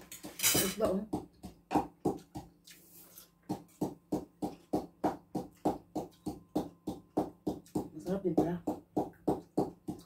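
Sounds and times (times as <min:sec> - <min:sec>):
knife chopping on cutting board: 0:00.2 - 0:02.5, 0:03.5 - 0:10.0.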